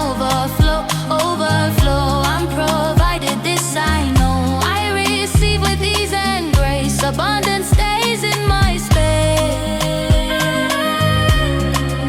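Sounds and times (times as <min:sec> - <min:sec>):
afrobeats groove: 0:00.0 - 0:12.0.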